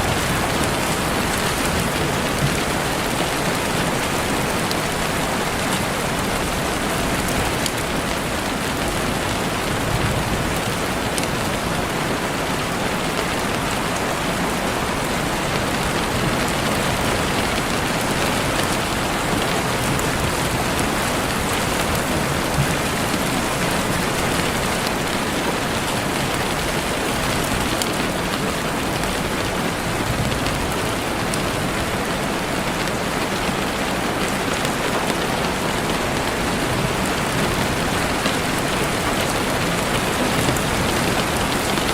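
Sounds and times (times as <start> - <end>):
heavy rain on leaves: 0.0 - 41.9.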